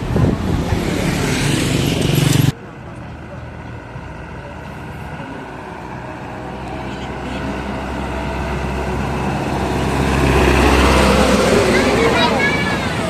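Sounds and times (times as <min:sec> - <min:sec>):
large vehicle engine running: 0:00.0 - 0:13.0.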